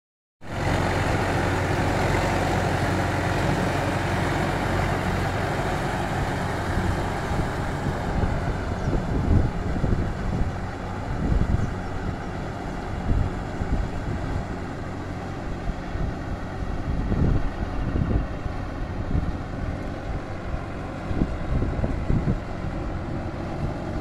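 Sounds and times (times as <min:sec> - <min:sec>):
tractor diesel engine running: 0:00.5 - 0:24.0.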